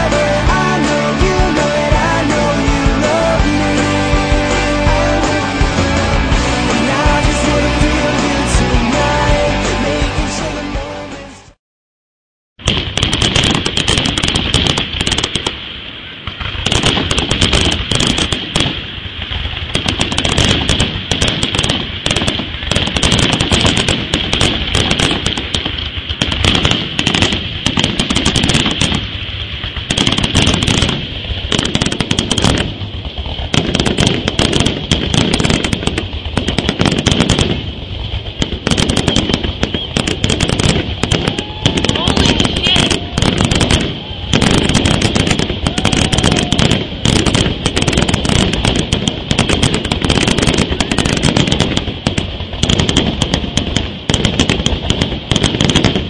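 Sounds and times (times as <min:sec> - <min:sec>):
fireworks bangs and crackles: 0:00.0 - 0:11.0, 0:12.6 - 0:56.0.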